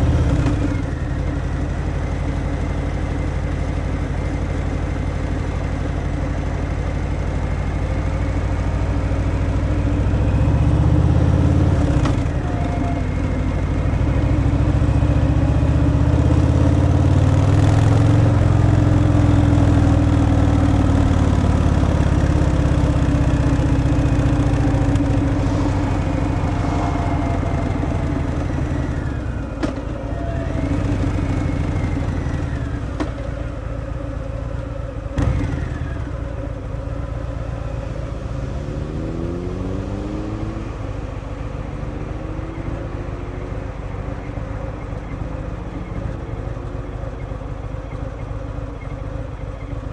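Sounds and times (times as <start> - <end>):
wind and road noise: 0.0 - 49.9
motorcycle engine revving: 5.2 - 49.9.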